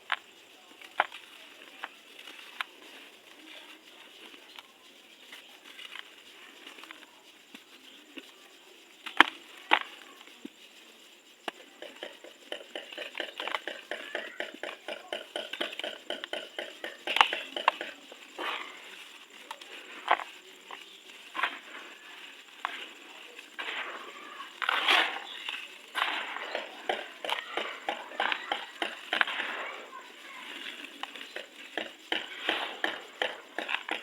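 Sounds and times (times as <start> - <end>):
dry material crunching and crackling: 0.0 - 34.0.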